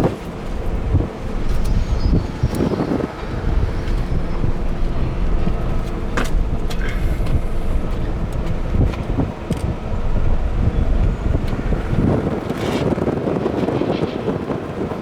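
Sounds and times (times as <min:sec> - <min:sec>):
vehicle engine rumbling: 0:00.0 - 0:13.7.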